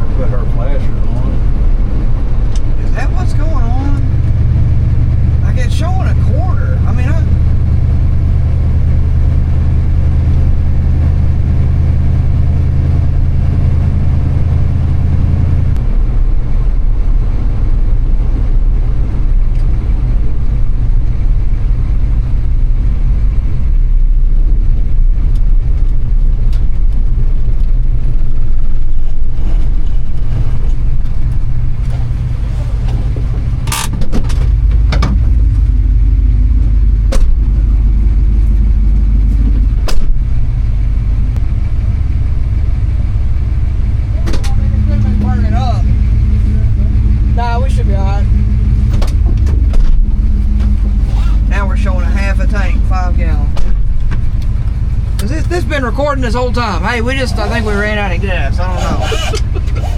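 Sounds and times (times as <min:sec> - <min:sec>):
pickup engine and road rumble: 0:00.0 - 0:59.9.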